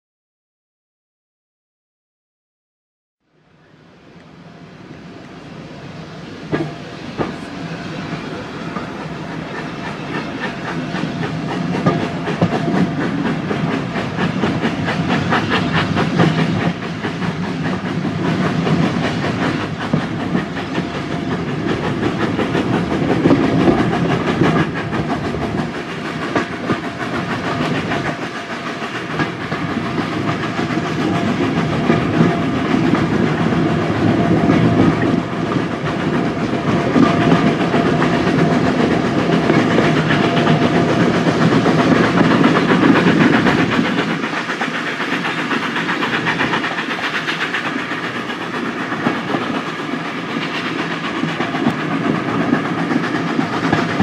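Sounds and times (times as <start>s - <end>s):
steam locomotive exhaust beats: 3.4s - 54.0s
train wheels clattering on rails: 6.3s - 54.0s.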